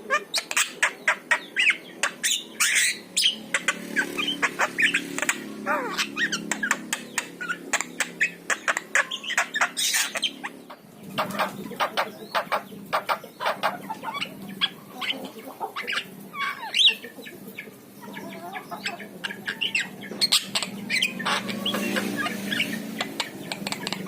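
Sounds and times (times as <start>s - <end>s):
myna chattering: 0.0s - 24.0s.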